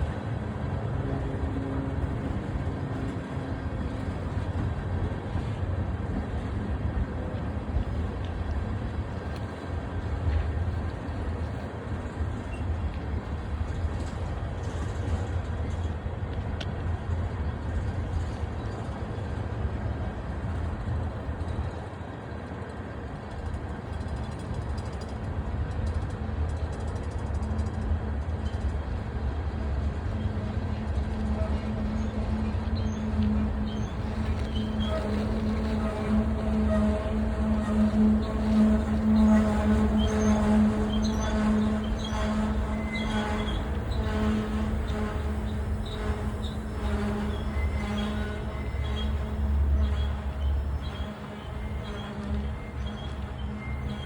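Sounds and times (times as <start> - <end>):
faint engine hum: 0.0 - 54.0
train wheels rumbling on rail: 0.0 - 54.0.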